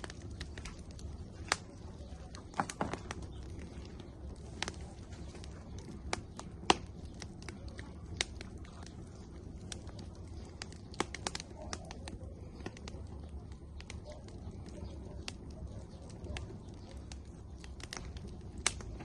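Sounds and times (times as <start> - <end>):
firewood crackling and popping: 0.0 - 19.0.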